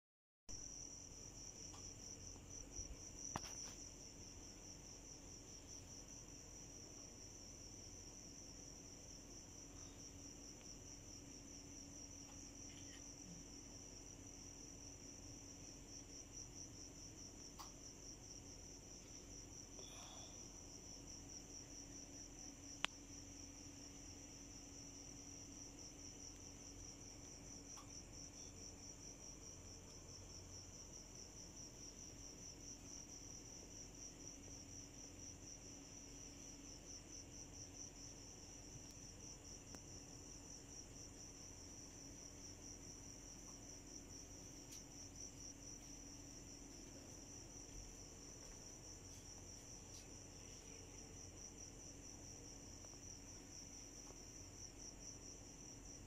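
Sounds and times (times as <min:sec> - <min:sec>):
low steady hum: 0:00.5 - 0:56.0.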